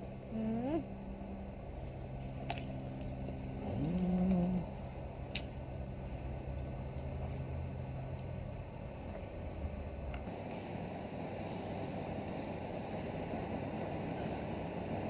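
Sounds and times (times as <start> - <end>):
electric tram humming: 0.0 - 15.0.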